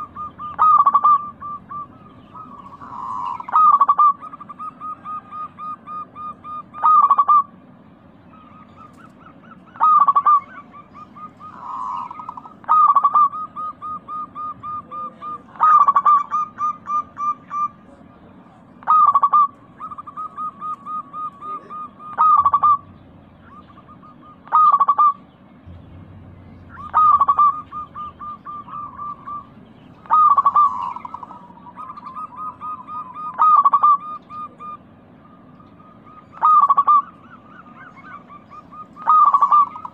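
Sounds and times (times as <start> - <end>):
dove cooing: 0.0 - 7.7, 8.3 - 25.3, 26.6 - 39.9.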